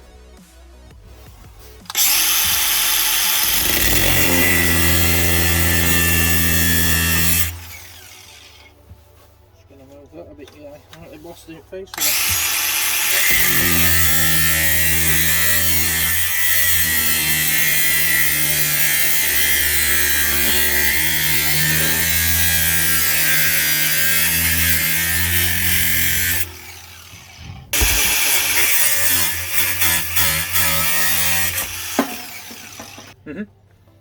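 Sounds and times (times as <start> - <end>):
power tool on steel pipe: 1.9 - 8.7, 12.0 - 33.2.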